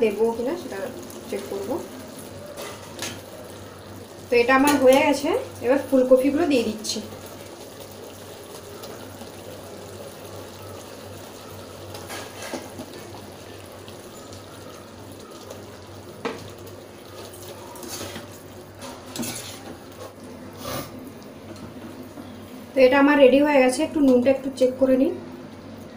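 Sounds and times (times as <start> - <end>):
sauce bubbling and hissing: 0.1 - 22.7.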